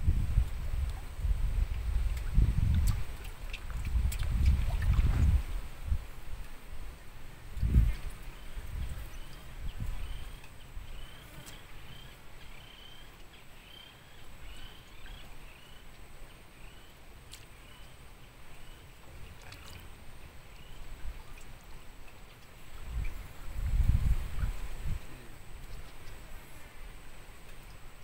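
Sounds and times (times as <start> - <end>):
river ambience low rumble: 0.0 - 28.0.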